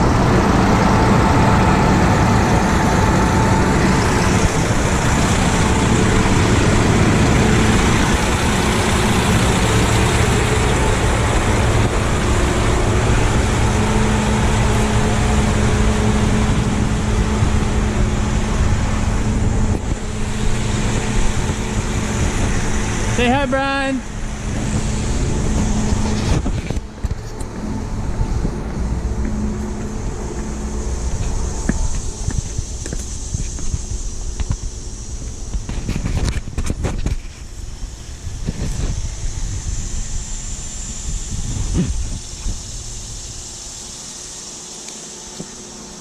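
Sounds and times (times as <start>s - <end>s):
large engine running steadily: 0.0s - 46.0s.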